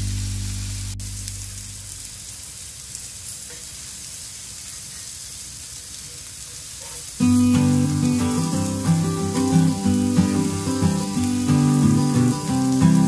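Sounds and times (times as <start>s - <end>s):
meat sizzling on a griddle: 1.0s - 13.0s.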